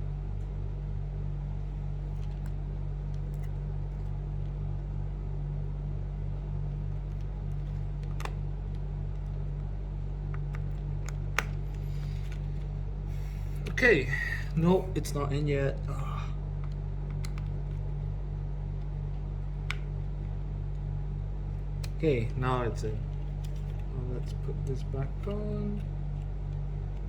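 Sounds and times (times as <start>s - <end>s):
low pulsing mechanical hum: 0.0s - 27.0s.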